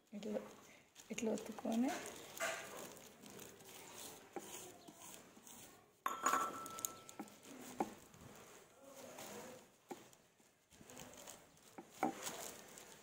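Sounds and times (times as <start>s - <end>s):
plastic sheet crinkling: 0.0s - 5.8s, 6.6s - 13.0s.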